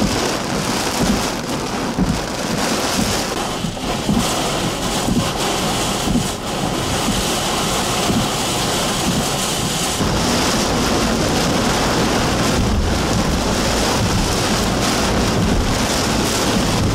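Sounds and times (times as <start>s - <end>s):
heavy rain on car roof: 0.0s - 16.9s
high wind: 0.0s - 16.9s.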